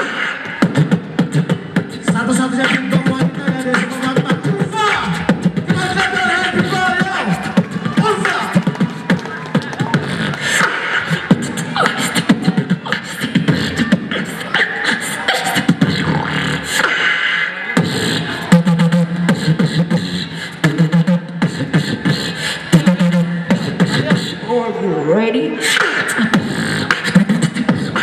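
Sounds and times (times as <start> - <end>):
beatbox vocal percussion: 0.0 - 24.6, 25.5 - 28.0.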